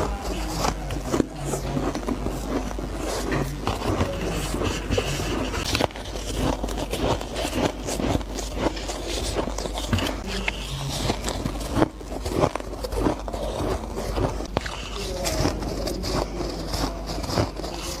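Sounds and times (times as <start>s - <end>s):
crunching and chewing ice: 0.0s - 18.0s.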